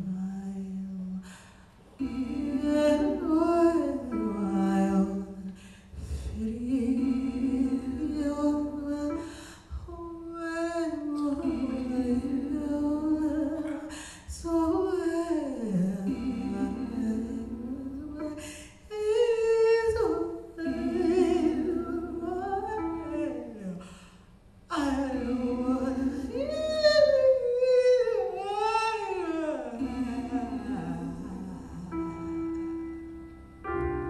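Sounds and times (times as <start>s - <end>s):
woman singing wordlessly: 0.0s - 1.4s, 2.0s - 23.8s, 24.7s - 32.8s.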